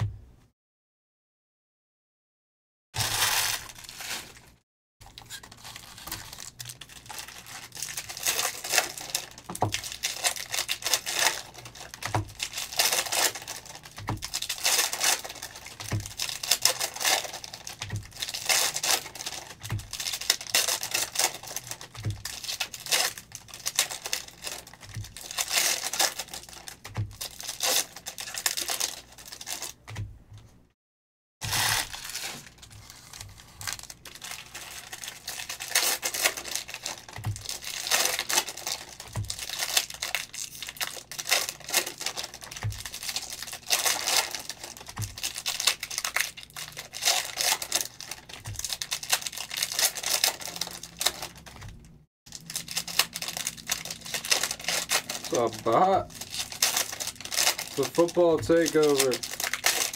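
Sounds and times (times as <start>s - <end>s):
card packs tearing open: 3.0s - 29.8s, 31.4s - 51.7s, 52.3s - 59.9s
wrappers crinkling: 3.0s - 29.9s, 31.4s - 59.9s.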